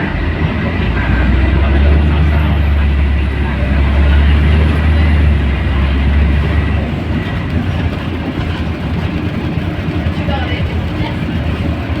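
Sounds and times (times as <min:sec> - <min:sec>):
diesel bus engine rumble: 0:00.0 - 0:12.0.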